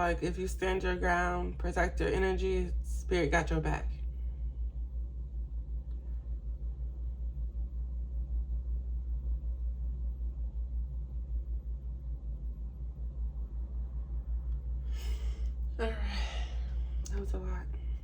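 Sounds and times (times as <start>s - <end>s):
low pulsing rumble: 0.0s - 18.0s.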